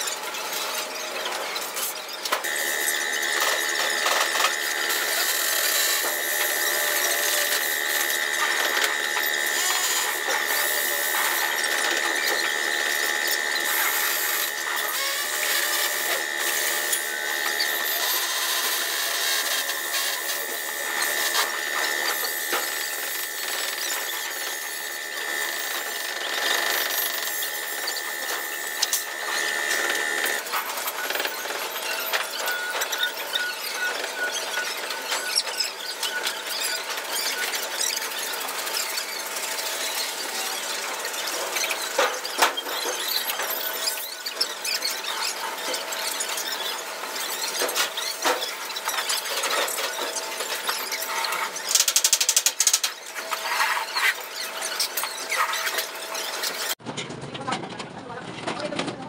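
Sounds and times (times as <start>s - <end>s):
high-pitched whine: 0.0s - 56.8s.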